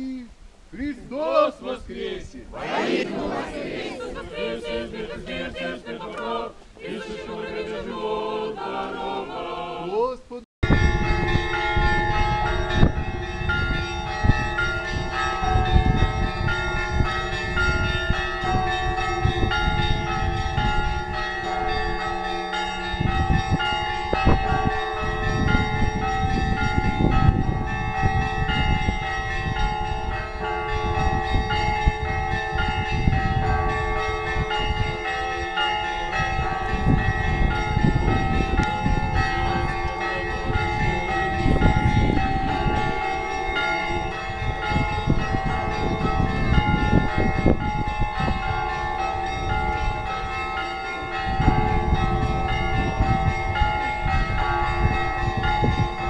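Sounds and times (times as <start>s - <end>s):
church bells ringing: 10.6s - 56.0s.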